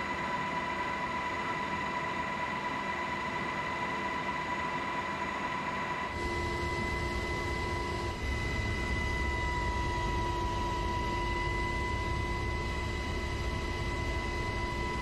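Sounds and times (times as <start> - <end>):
aircraft engine drone in cabin: 0.0 - 15.0
high engine whine: 0.0 - 15.0.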